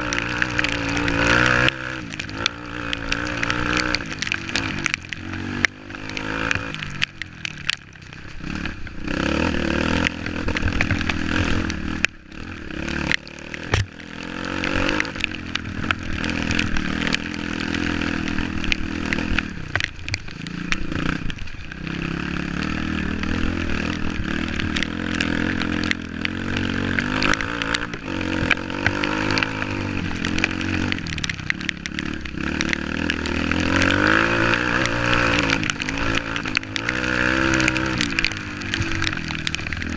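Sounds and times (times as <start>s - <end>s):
off-road motorcycle engine revving: 0.0s - 39.9s.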